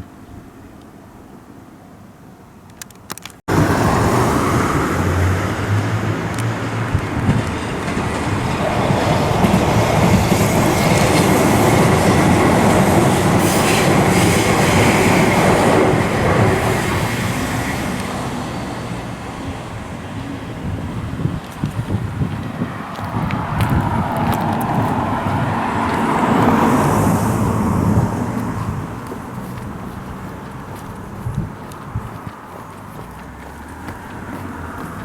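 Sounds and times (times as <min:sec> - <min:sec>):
train passing close by: 0:03.5 - 0:35.0.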